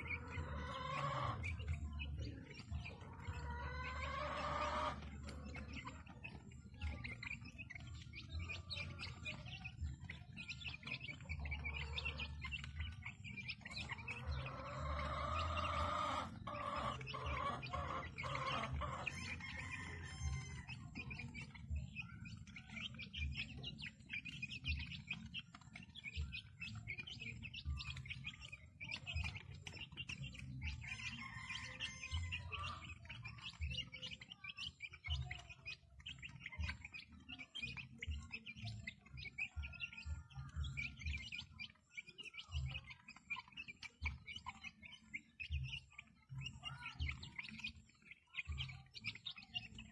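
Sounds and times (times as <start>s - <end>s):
chicks cheeping: 0.0s - 49.9s.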